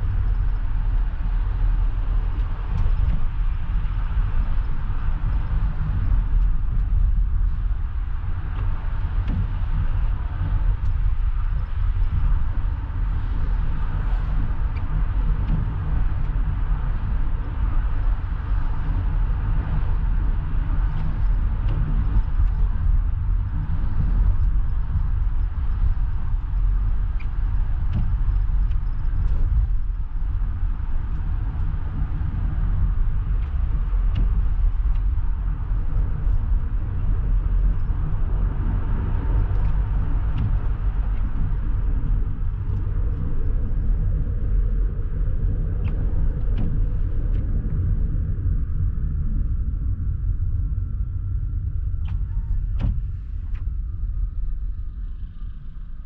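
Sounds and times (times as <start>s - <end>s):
car interior engine and tyre noise: 0.0s - 56.0s.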